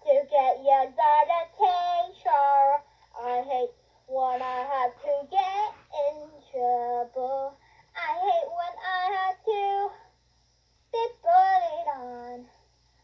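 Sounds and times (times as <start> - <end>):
girl singing: 0.0 - 10.1, 10.9 - 12.6.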